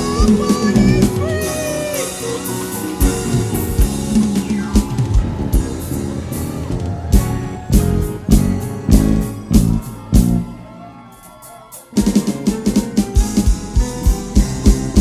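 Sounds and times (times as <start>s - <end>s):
band playing upbeat gospel: 0.0s - 10.6s, 11.9s - 15.0s
drum kit beat: 0.0s - 10.7s, 11.7s - 15.0s
guitar: 0.0s - 15.0s.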